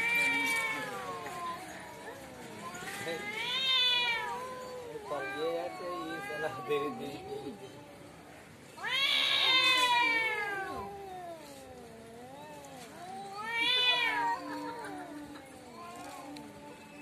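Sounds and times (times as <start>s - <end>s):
cats yowling: 0.0s - 17.0s.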